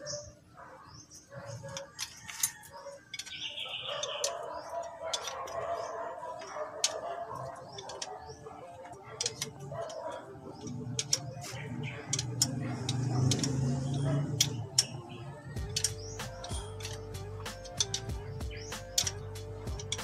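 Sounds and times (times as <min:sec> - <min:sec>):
birds calling: 0:00.0 - 0:20.0
metal wrench clicking against bolt: 0:01.5 - 0:20.0.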